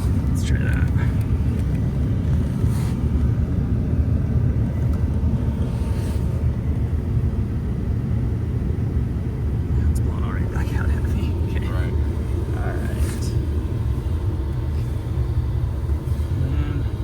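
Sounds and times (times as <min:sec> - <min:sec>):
car climate blower rushing air: 0:00.0 - 0:17.0.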